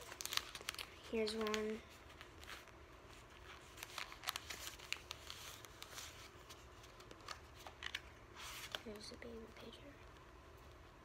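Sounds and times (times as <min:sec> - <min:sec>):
paper prints rustling and flicking: 0:00.0 - 0:11.0.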